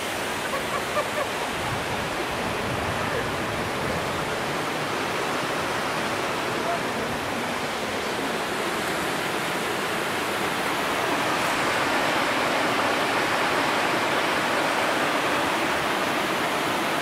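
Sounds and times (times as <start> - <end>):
rushing river water: 0.0 - 17.0.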